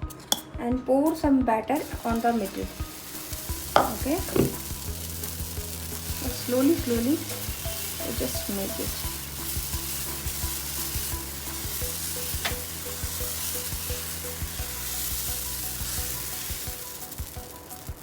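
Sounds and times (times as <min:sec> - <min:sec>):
batter sizzling on hot pan: 0:01.8 - 0:18.0.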